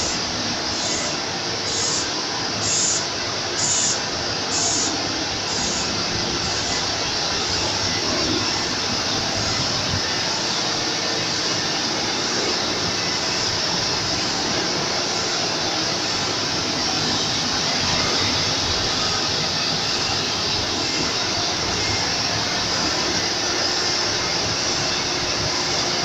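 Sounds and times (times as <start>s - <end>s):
pumps and machinery running: 0.0s - 26.0s.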